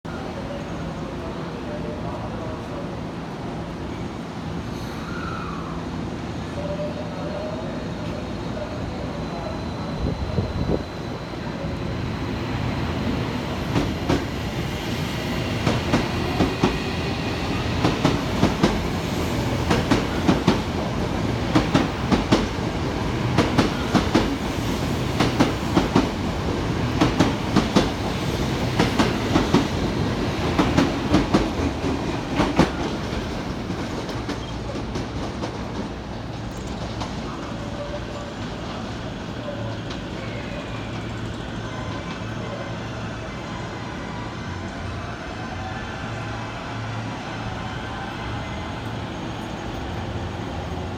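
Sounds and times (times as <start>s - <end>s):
train rumble: 0.2s - 50.9s.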